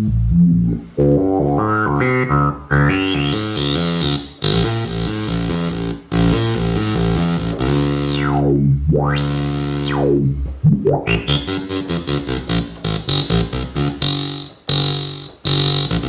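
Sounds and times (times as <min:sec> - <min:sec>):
analog synthesizer notes: 0:00.0 - 0:16.0
synthesizer chord with filter sweep: 0:00.1 - 0:16.0.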